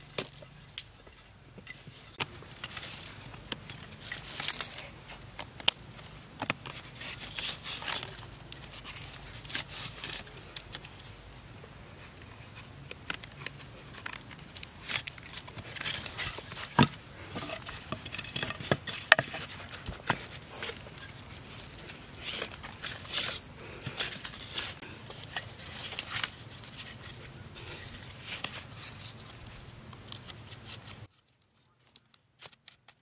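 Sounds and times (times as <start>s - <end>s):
bark tie scraping and rustling: 0.0s - 11.3s, 11.9s - 33.0s.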